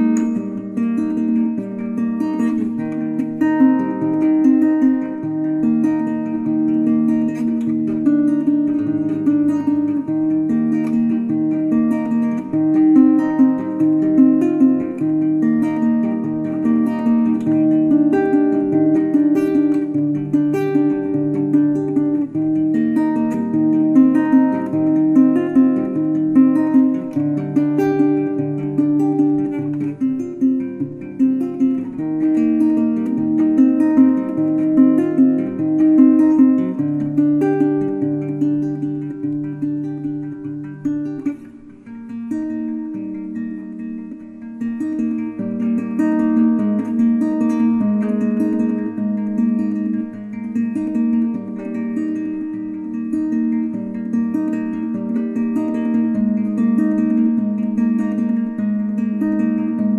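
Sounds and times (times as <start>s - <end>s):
plucked guitar music: 0.0s - 59.9s.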